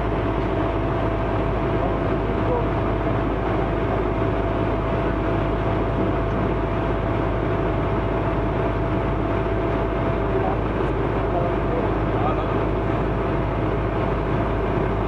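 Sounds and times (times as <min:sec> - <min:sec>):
diesel engine deep rumble: 0:00.0 - 0:15.0
thin steady whine: 0:00.0 - 0:15.0.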